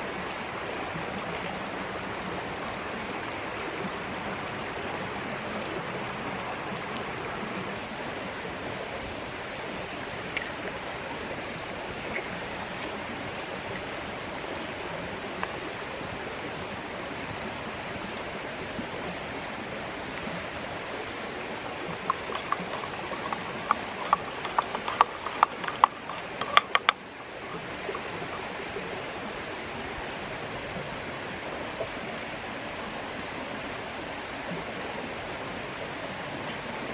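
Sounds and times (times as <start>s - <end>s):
creek water flowing: 0.0s - 36.9s.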